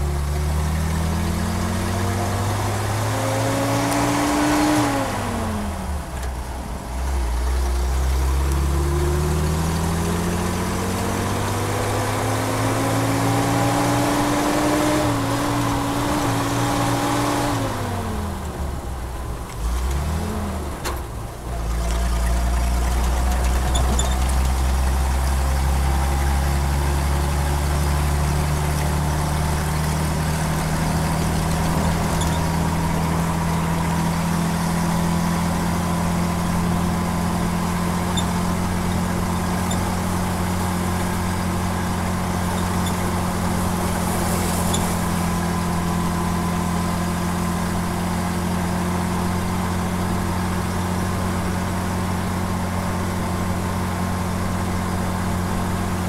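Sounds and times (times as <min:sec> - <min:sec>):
truck engine running: 0:05.0 - 0:56.0.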